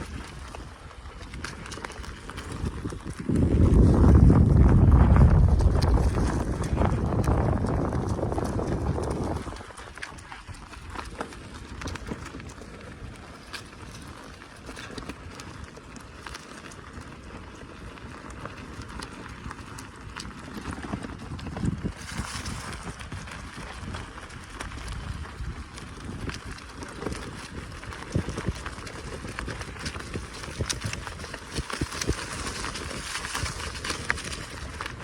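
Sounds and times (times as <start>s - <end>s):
clicks and rattles from bicycle: 0.0s - 4.4s, 5.3s - 35.0s
bicycle rolling over rough ground: 0.0s - 35.0s.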